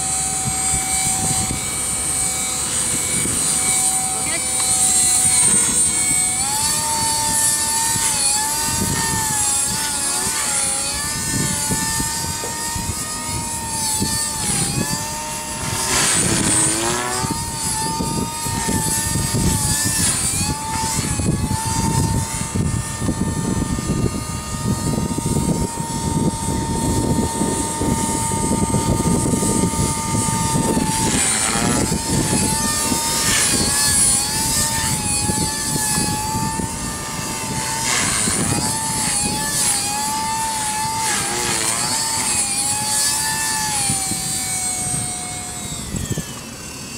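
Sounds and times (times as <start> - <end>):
rc helicopter high whine: 0.0 - 46.9
wind rumbling on microphone: 0.0 - 46.9.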